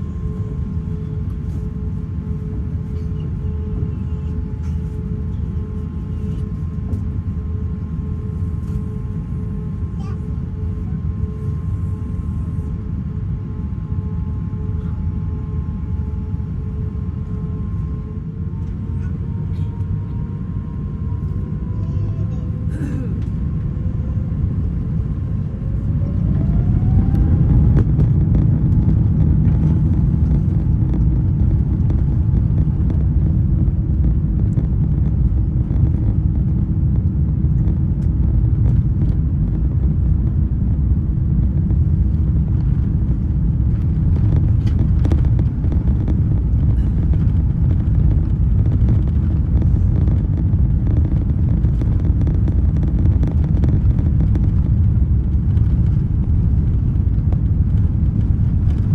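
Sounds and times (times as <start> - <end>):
jet engine rumble: 0.0 - 58.9.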